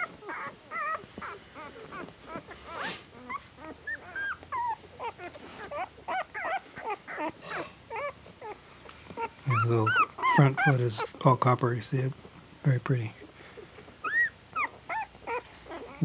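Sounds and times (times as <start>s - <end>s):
puppies squeaking and whimpering: 0.0s - 11.6s, 13.2s - 16.0s.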